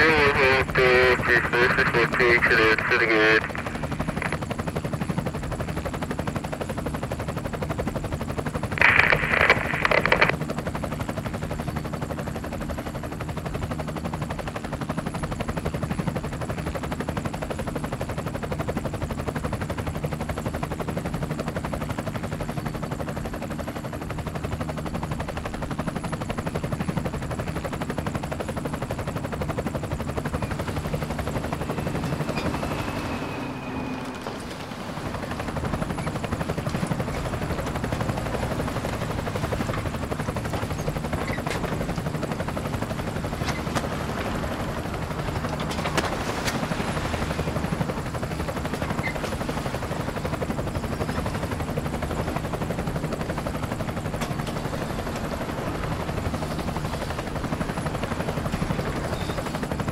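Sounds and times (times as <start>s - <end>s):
motor drone with flutter: 3.3s - 59.9s.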